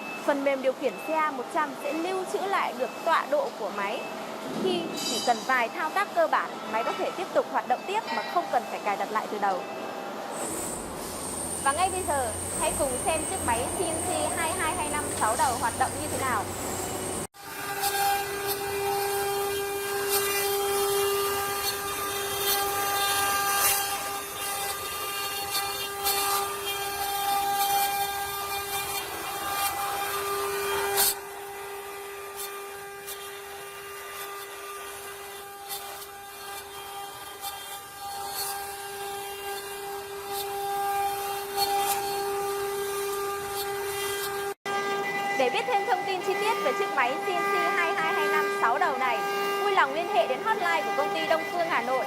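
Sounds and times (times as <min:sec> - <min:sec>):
router spindles whining: 0:00.0 - 0:52.0
router bits rasping wood: 0:10.3 - 0:52.0.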